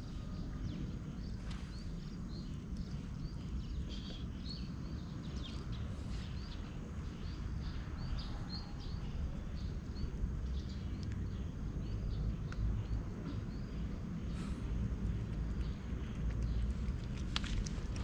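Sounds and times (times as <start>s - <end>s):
low outdoor rumble: 0.0s - 18.0s
small birds chirping: 0.0s - 18.0s.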